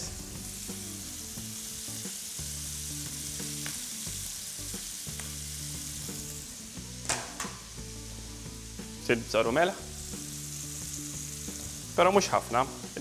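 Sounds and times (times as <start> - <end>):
frying pan sizzling: 0.0 - 13.0.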